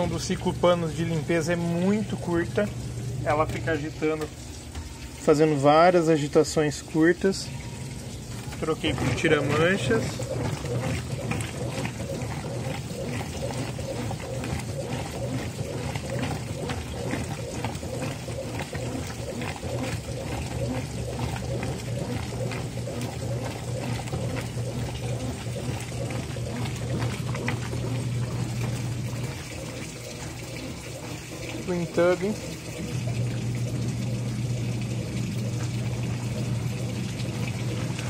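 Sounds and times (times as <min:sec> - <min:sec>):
other washers running: 0:00.0 - 0:38.0
washing machine motor hum: 0:00.0 - 0:38.0
water sloshing and splashing: 0:00.0 - 0:38.0.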